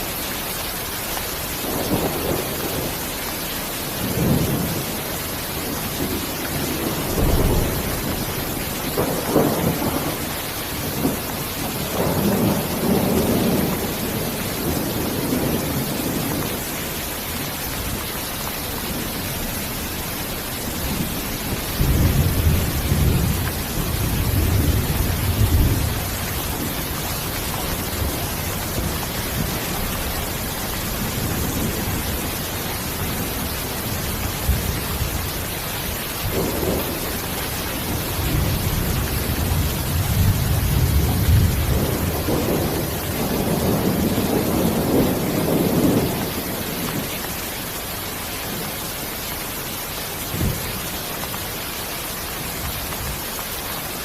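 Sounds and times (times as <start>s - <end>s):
steady rain: 0.0s - 54.0s
thunder rumbling: 1.6s - 3.2s, 3.9s - 47.3s.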